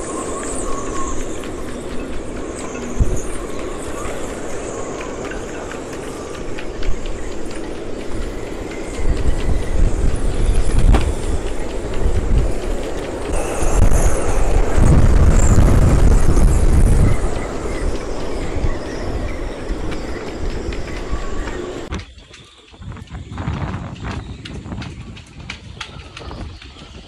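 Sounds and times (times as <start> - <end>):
boats clicking and rattling: 0.0 - 27.0
strong wind gusting on microphone: 0.0 - 27.0.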